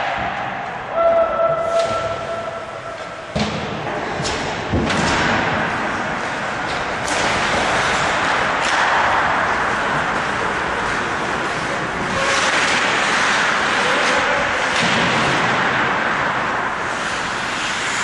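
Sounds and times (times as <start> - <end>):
skates scraping ice: 1.5 - 18.0
puck and sticks knocking boards: 3.0 - 18.0.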